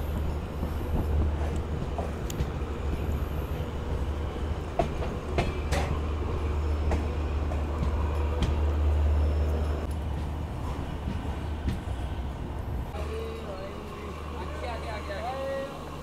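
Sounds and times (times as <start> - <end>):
wheels clunking over rail joints: 0.0 - 13.9
train coach rumbling: 0.0 - 16.0.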